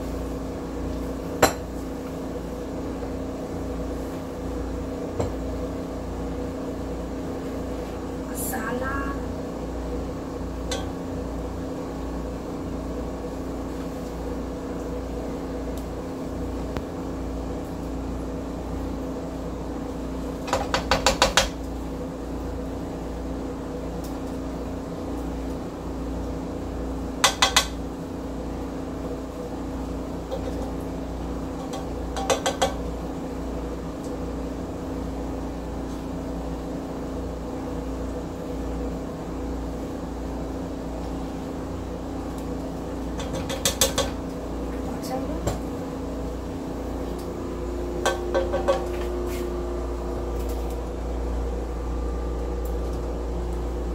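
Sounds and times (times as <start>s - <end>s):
low kitchen hum: 0.0s - 53.9s.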